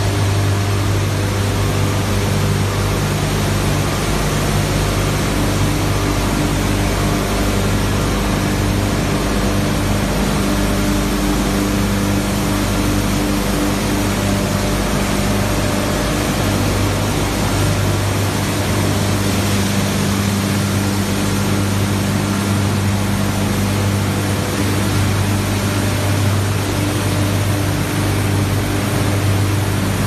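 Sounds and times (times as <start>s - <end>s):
machinery humming: 0.0s - 30.0s.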